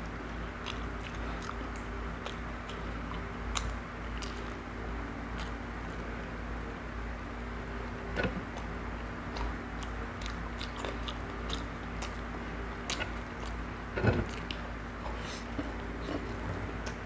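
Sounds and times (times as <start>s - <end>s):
man chewing food: 0.0s - 6.9s, 7.7s - 17.0s
steady low hum: 0.0s - 17.0s.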